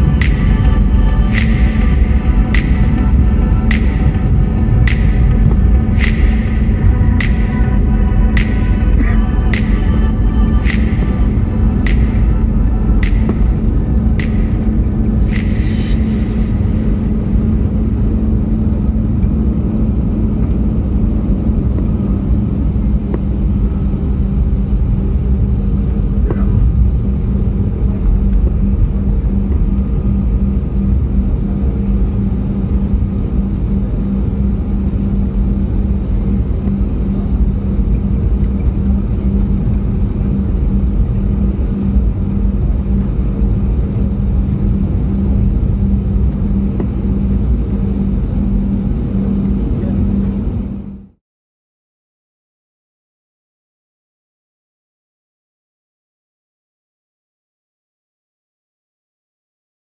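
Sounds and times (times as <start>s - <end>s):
constant low hum: 0.0s - 51.2s
engines and wheels rumbling: 0.0s - 51.2s.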